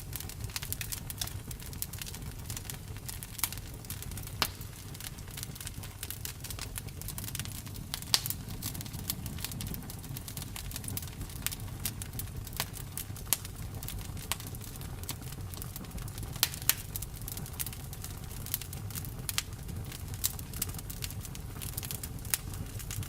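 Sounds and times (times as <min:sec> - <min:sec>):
campfire wood crackling and popping: 0:00.0 - 0:23.0
low rumble of flames: 0:00.0 - 0:23.0.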